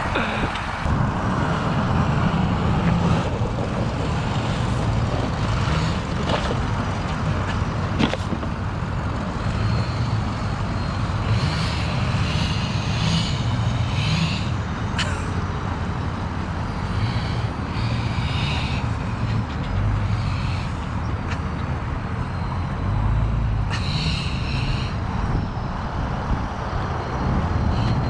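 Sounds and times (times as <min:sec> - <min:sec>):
truck engine droning: 0:00.0 - 0:28.0.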